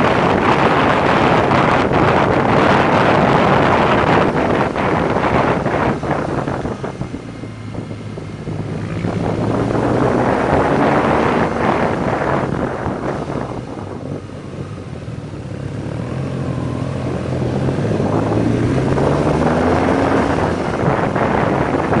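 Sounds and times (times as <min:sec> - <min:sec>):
motorcycle engine revving: 0:00.0 - 0:22.0
wind noise on microphone: 0:00.0 - 0:22.0.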